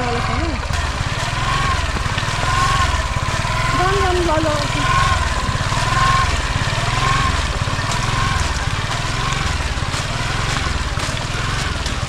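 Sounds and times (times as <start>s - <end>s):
scooter engine pulsing: 0.0s - 12.0s.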